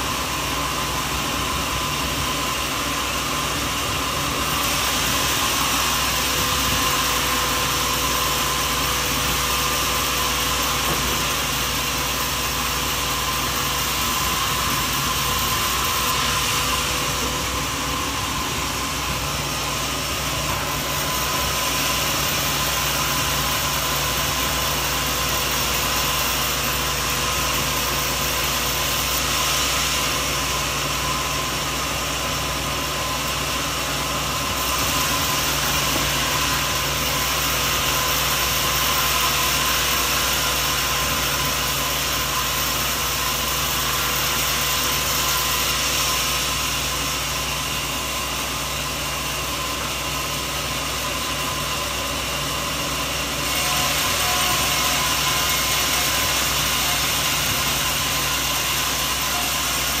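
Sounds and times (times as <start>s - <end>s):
sawmill machinery drone: 0.0s - 60.0s.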